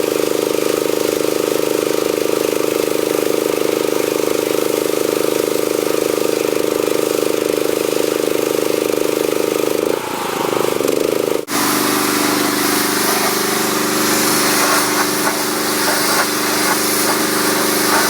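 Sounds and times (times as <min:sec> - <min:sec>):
pressure washer engine running: 0:00.0 - 0:18.0.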